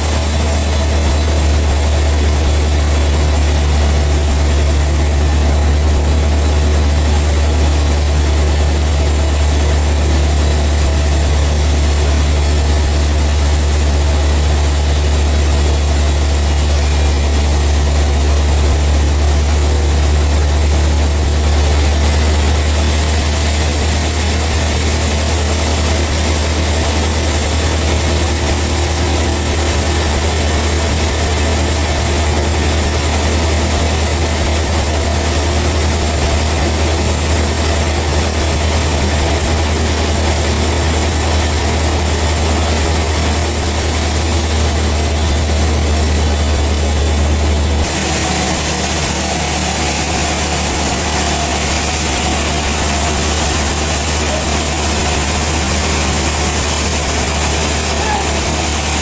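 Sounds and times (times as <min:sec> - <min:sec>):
heavy engine droning: 0:00.0 - 0:59.0.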